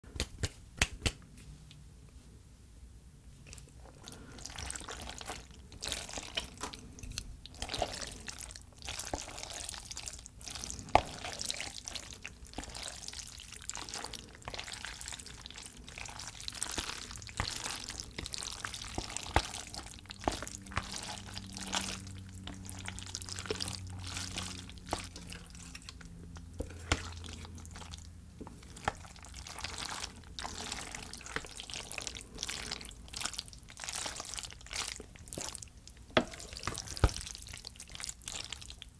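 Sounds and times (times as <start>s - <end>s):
noodles squishing in sauce: 3.5s - 38.9s.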